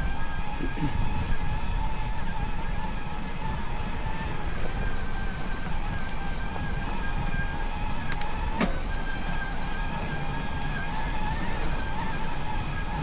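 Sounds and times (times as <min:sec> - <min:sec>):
electric bike motor whining: 0:00.0 - 0:13.0
wind rumble on microphone: 0:00.0 - 0:13.0.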